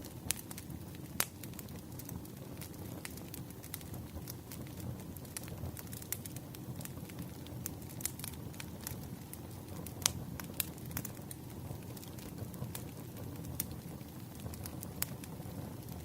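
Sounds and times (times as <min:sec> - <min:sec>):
fire crackles and pops: 0:00.0 - 0:16.0
wood fire low rumble: 0:00.0 - 0:16.0.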